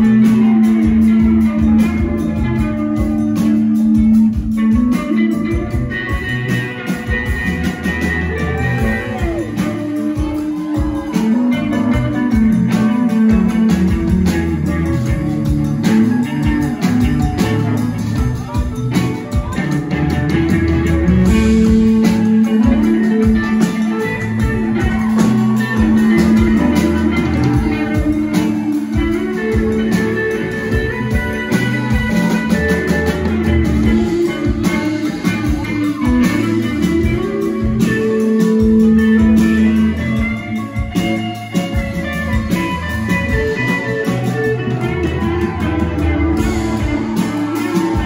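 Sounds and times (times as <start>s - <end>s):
electric guitar: 0.0s - 48.0s
live rock band playing: 0.0s - 48.0s.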